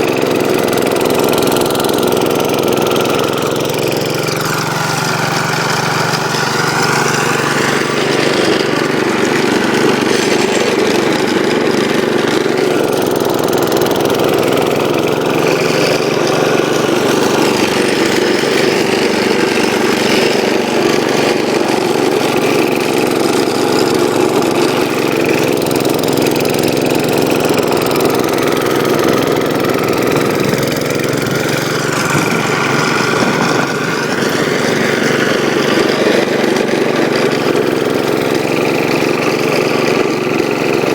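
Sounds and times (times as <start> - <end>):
snow blower engine running: 0.0 - 40.9.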